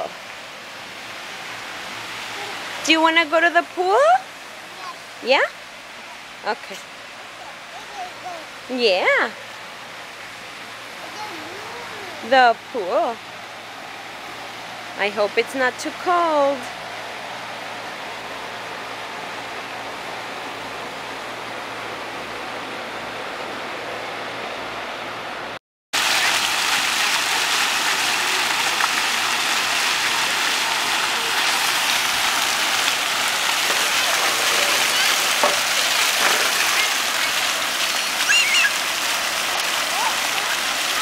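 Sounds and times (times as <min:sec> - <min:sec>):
water jets spraying: 0:00.0 - 0:20.7, 0:26.0 - 0:41.0.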